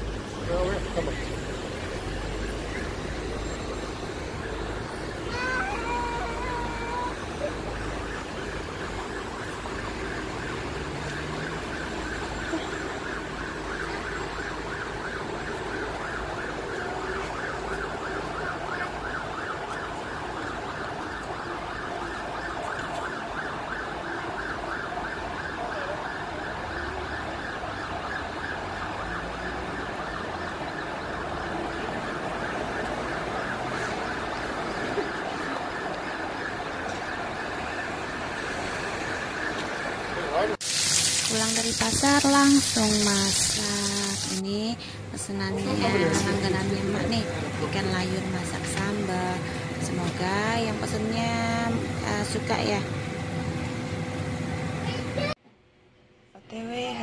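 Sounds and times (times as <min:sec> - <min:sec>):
traffic rumbling: 0:00.0 - 0:56.9.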